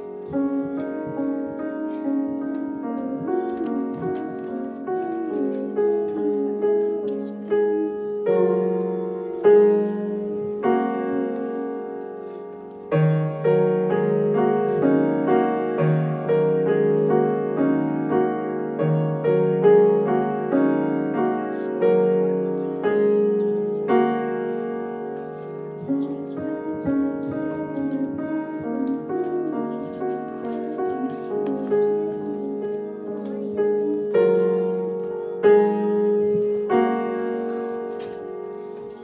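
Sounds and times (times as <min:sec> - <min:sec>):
grand piano playing: 0:00.0 - 0:39.0.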